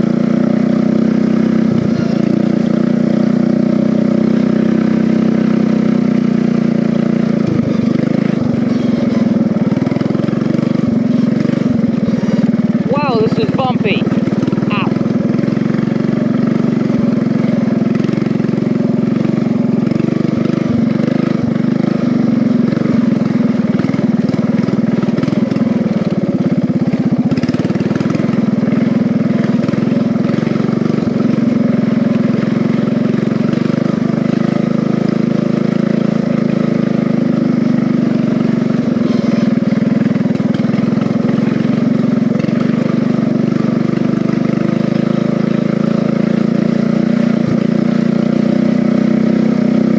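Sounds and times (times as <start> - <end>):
mower engine running: 0.0 - 49.9.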